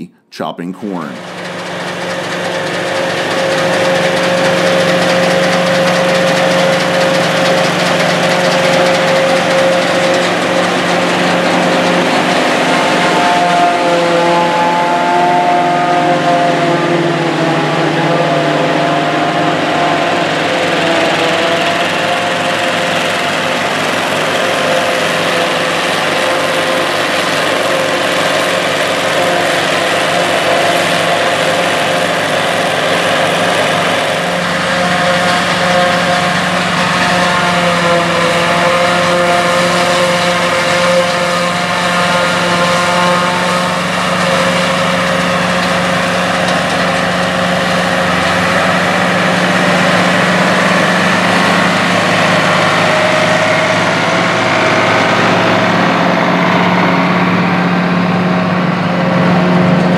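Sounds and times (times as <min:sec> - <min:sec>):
forage harvester engine drone: 0:00.0 - 0:59.9.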